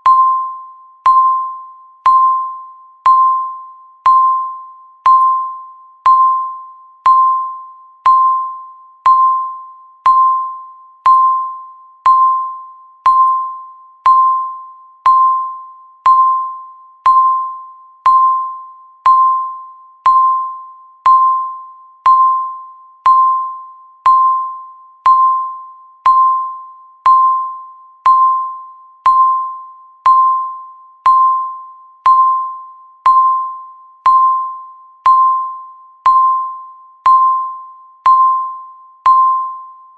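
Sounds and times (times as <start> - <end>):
countdown timer beeping: 0.0 - 39.7.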